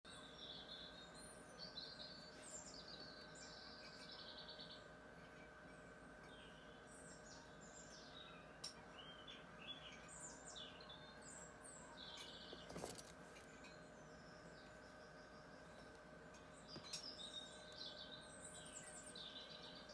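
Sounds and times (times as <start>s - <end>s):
birds chirping faintly: 0.1s - 19.9s
faint steady hum: 0.1s - 19.9s.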